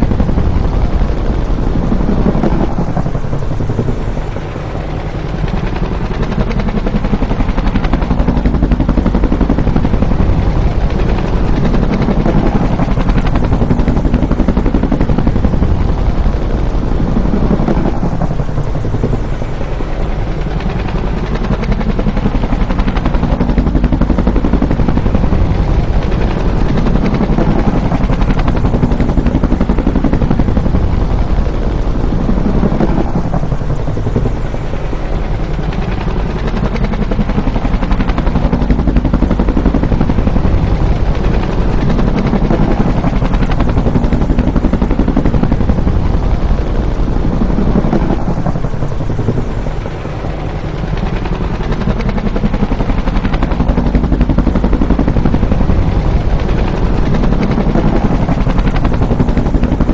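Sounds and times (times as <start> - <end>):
helicopter rotor beating: 0.0 - 59.9.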